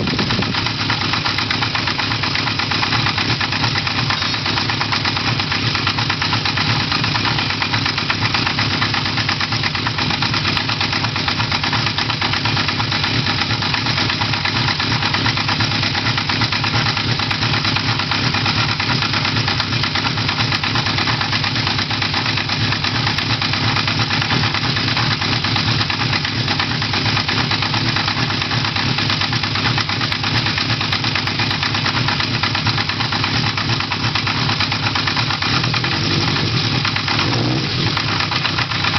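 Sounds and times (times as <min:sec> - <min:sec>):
engine knocking: 0:00.0 - 0:38.9
motorcycle engine idling: 0:00.0 - 0:38.9.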